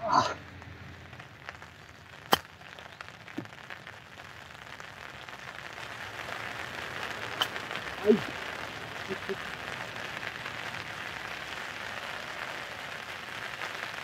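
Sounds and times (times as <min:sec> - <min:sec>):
light rain patter: 0:00.0 - 0:14.0.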